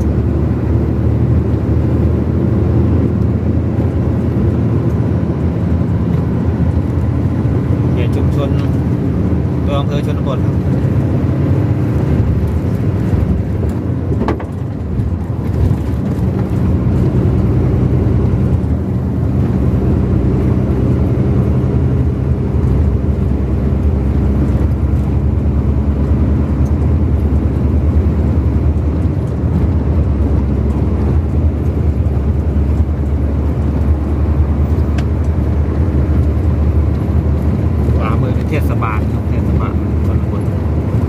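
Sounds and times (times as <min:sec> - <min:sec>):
road noise: 0:00.0 - 0:41.0
vehicle engine hum: 0:00.0 - 0:41.0.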